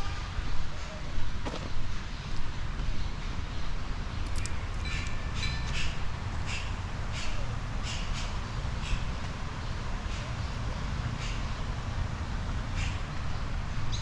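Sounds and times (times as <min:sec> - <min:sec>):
low traffic rumble: 0:00.0 - 0:14.0.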